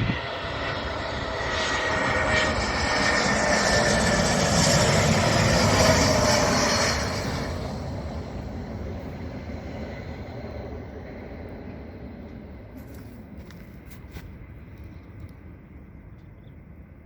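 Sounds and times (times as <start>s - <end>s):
jet engines rushing: 0.0s - 13.8s.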